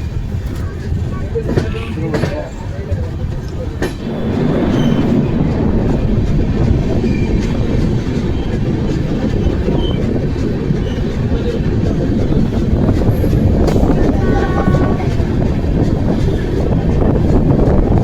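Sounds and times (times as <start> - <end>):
train rumbling on rails: 0.0 - 18.0
wheels clicking over rail joints: 0.0 - 18.0.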